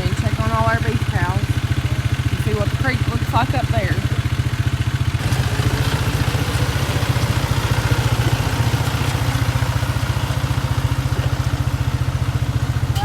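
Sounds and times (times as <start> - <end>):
farm vehicle engine running: 0.0 - 13.0.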